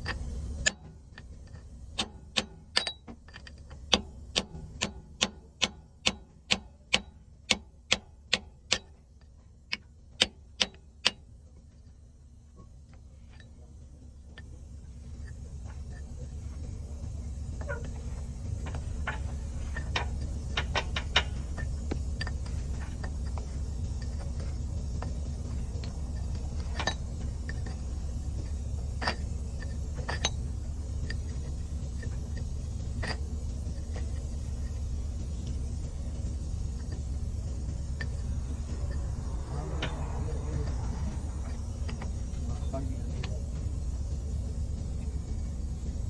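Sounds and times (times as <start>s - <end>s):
hand tools clicking and tapping: 0.0s - 12.0s, 12.6s - 46.0s
steady low hum: 0.0s - 46.0s.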